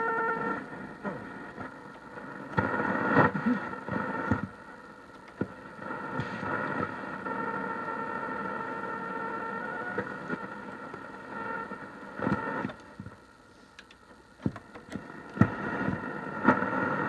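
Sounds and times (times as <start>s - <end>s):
crackling garbled radio noise: 0.0s - 17.0s.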